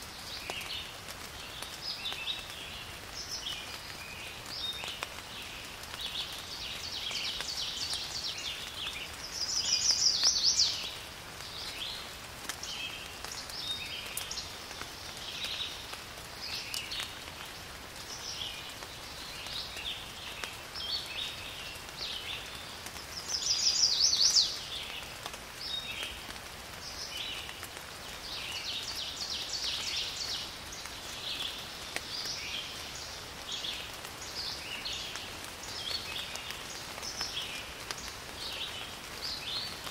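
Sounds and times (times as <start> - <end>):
light rain hiss: 0.0 - 39.9
songbirds chirping: 0.0 - 39.9.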